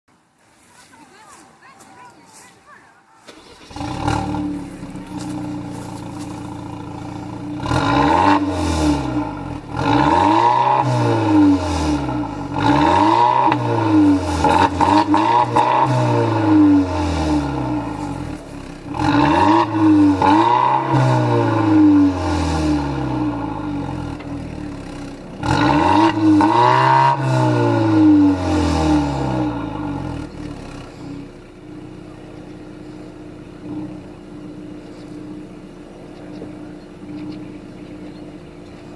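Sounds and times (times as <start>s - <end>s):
car engine starting and idling: 3.2s - 38.9s
car engine revving: 3.3s - 38.9s.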